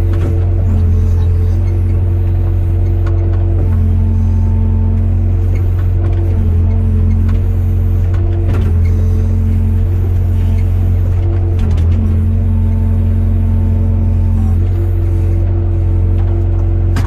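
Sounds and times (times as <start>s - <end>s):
diesel engine drone: 0.0s - 17.0s
hydraulic whine: 0.0s - 17.0s.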